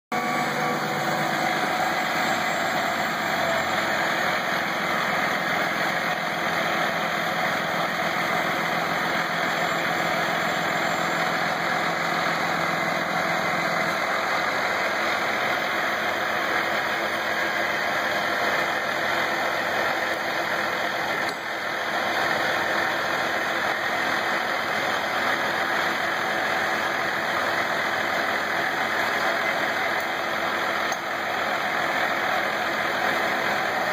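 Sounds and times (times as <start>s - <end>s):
truck engine idling: 0.1s - 33.9s.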